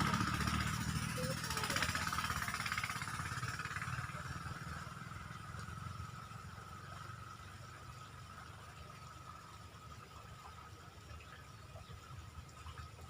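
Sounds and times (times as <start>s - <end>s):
passing vehicle engine rumble: 0.0s - 11.4s.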